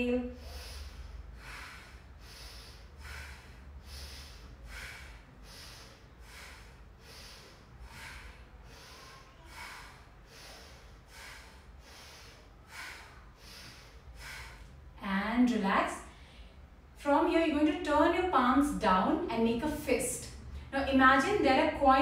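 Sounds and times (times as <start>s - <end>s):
woman breathing rhythmically: 0.0s - 17.0s, 20.2s - 22.0s.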